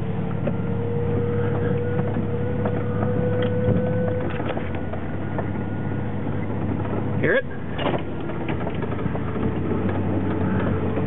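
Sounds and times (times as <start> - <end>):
driveline whine: 0.0 - 11.0
engine and road drone: 0.0 - 11.0
cab rattles: 1.3 - 11.0.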